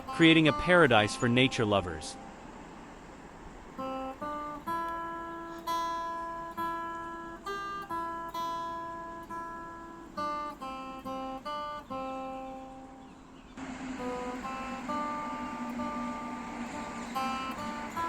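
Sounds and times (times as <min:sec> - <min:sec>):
acoustic guitar strummed chords: 0:00.0 - 0:02.4, 0:03.7 - 0:13.0, 0:13.6 - 0:18.0.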